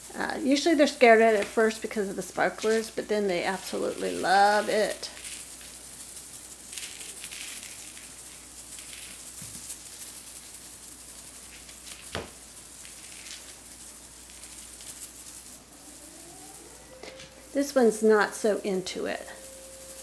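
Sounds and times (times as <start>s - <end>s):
crinkly tinsel rustling: 0.0s - 20.0s.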